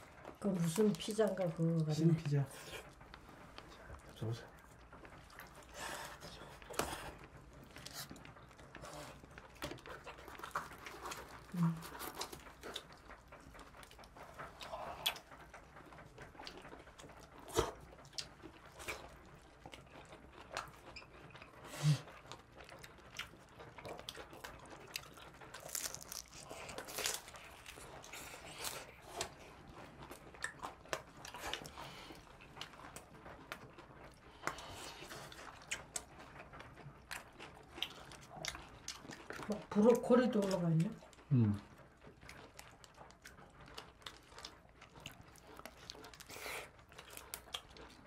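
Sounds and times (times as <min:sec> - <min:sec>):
people chewing pizza: 0:00.0 - 0:48.0.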